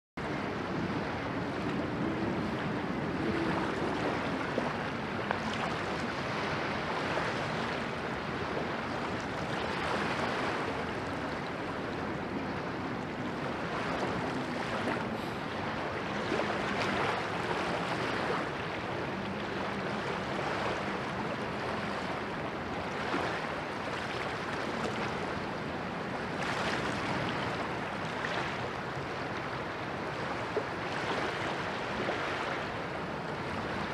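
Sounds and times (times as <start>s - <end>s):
distant ship engine drone: 0.2s - 33.9s
river water rushing: 0.2s - 33.9s
wind: 0.2s - 33.9s.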